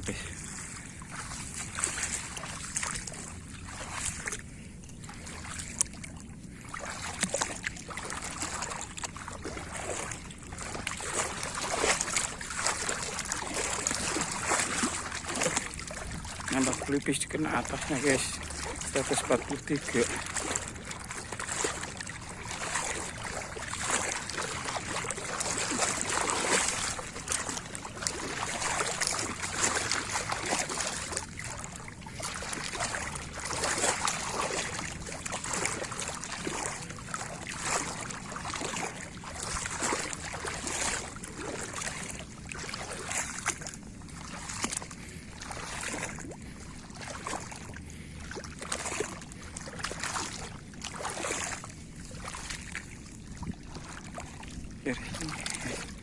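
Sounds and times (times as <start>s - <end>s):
water sloshing and splashing: 0.0s - 56.0s.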